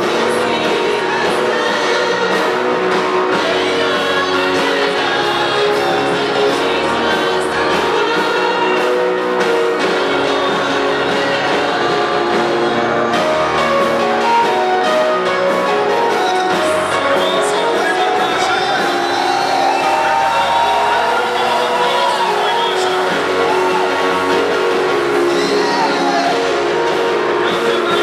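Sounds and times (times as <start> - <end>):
gospel singing over instruments: 0.0 - 28.0.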